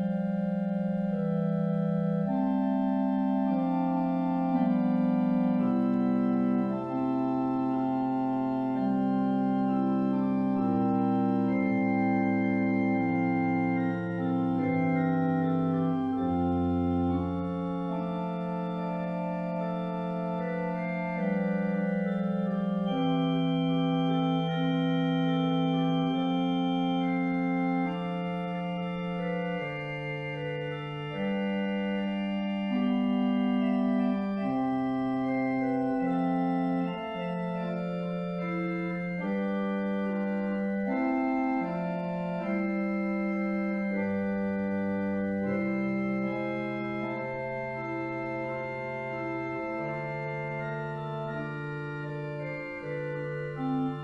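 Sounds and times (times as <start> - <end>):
organ playing slow chords: 0.0 - 54.0.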